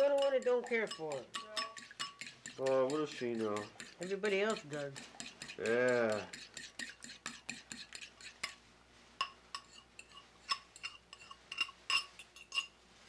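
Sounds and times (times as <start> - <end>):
metal spoon clinking in ceramic bowl: 0.0 - 8.6, 9.2 - 12.7.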